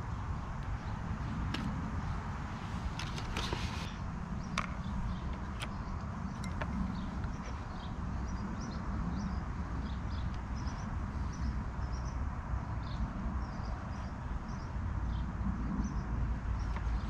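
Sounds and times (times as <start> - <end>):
small birds chirping: 0.6 - 17.0.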